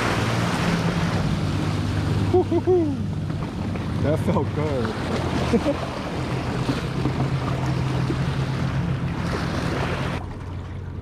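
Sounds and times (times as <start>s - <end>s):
waves breaking against rocks: 0.0s - 2.3s, 3.0s - 10.9s.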